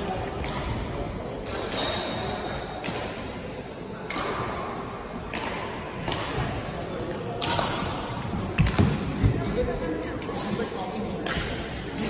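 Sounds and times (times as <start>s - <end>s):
rackets hitting shuttlecock: 0.1s - 9.4s, 10.2s - 12.0s.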